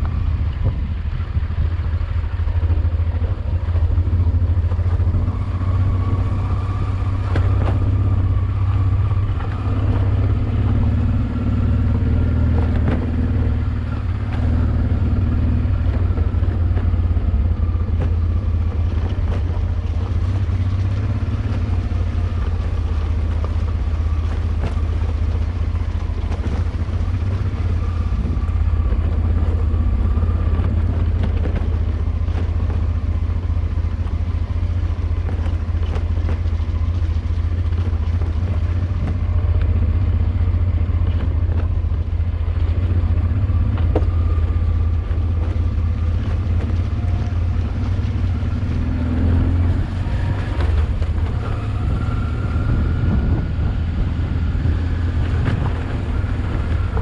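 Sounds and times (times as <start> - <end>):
light clatter over rough track: 0.0 - 57.0
motorcycle engine rumbling: 0.0 - 57.0.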